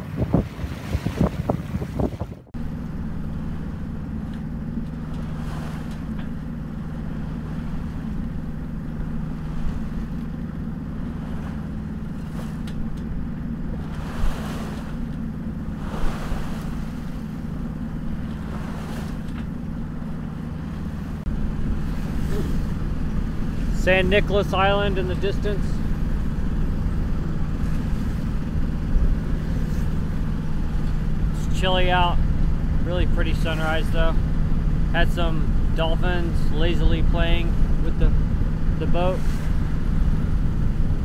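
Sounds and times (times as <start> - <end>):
boat engine humming: 0.0 - 41.0
water swishing along hull: 0.0 - 41.0
wind buffeting microphone: 0.0 - 41.0.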